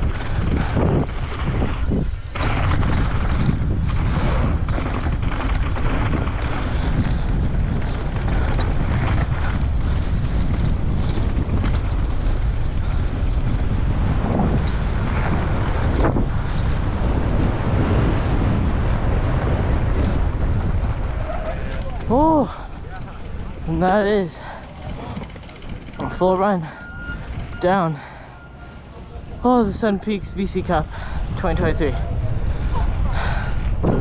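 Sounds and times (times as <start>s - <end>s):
low rumble of bike ride: 0.0s - 34.0s
wind buffeting microphone: 0.0s - 34.0s.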